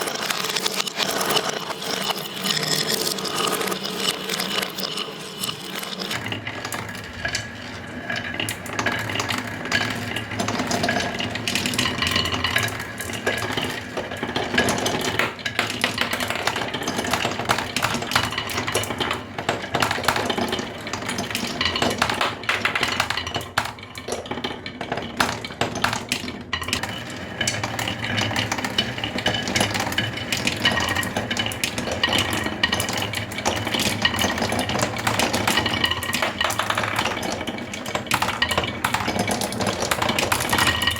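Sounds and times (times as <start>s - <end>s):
hard parts knocking and scraping: 0.0s - 40.9s.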